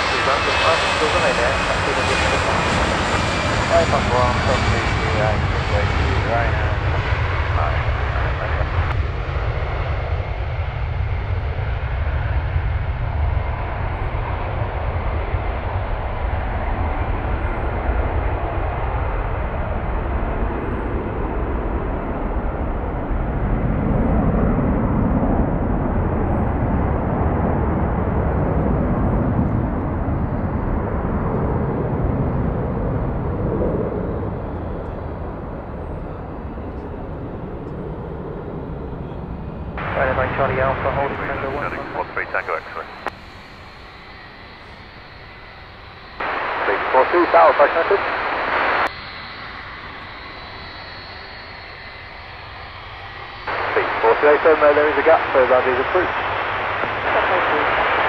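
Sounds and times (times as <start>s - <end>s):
jet engines at take-off power: 0.0s - 58.0s.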